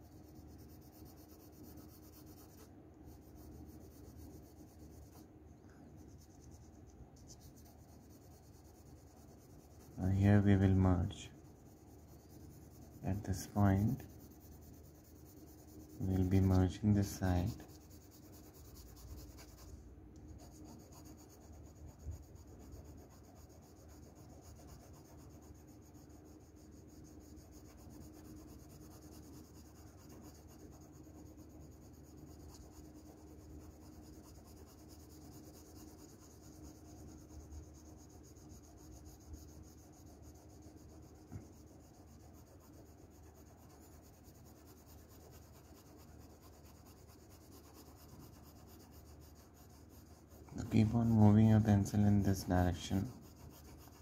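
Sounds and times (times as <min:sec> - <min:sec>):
pencil scratching on paper: 0:00.0 - 0:05.3, 0:06.0 - 0:54.0
faint hum: 0:00.0 - 0:54.0.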